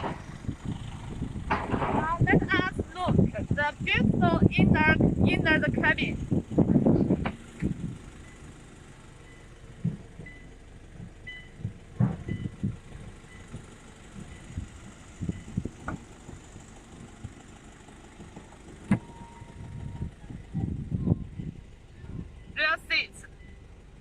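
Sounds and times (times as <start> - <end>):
low thumps and knocks: 0.0 - 8.0, 9.7 - 17.4, 18.1 - 22.6.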